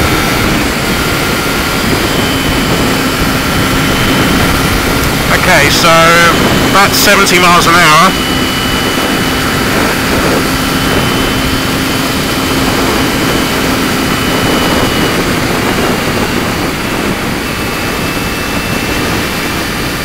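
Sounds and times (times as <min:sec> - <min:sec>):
heavy wind noise: 0:00.0 - 0:20.0
motorcycle engine drone: 0:00.0 - 0:20.0.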